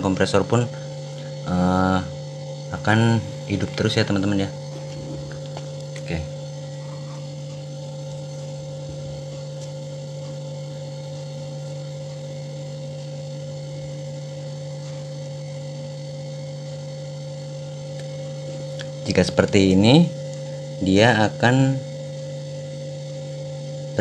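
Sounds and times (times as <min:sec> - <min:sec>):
refrigerator compressor hum: 0:00.0 - 0:24.0.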